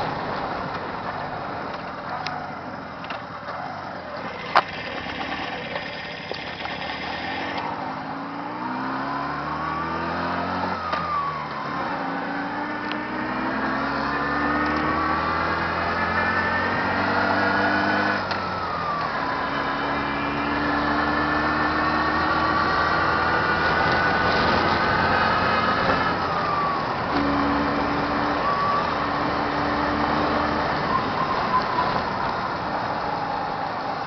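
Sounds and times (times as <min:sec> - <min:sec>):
car engine accelerating: 0:03.0 - 0:34.0.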